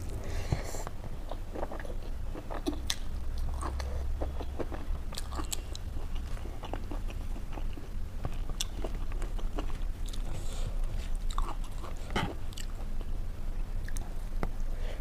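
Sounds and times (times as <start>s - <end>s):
food chewing and crunching: 0.0s - 14.6s
steady low hum: 0.0s - 15.0s.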